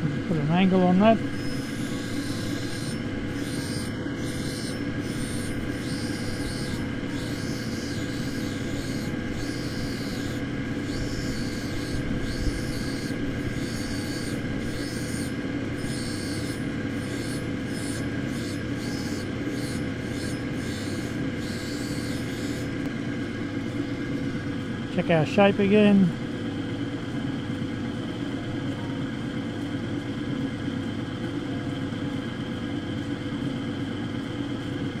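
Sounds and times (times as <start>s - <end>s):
machine hum: 0.0s - 35.0s.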